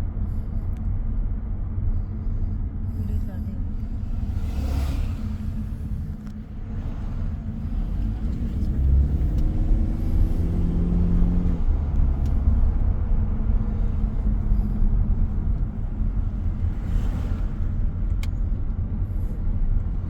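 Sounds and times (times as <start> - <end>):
road rumble: 0.0 - 20.0
car engine: 0.1 - 20.0.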